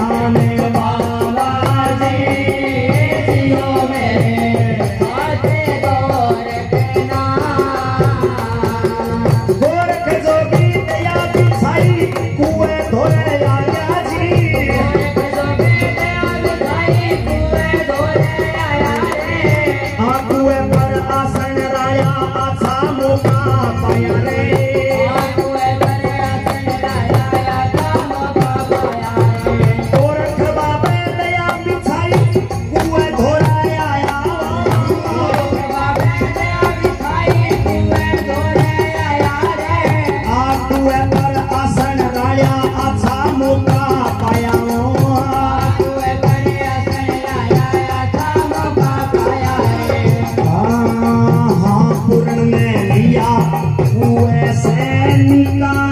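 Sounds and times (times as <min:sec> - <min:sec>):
drum beats: 0:00.0 - 0:55.9.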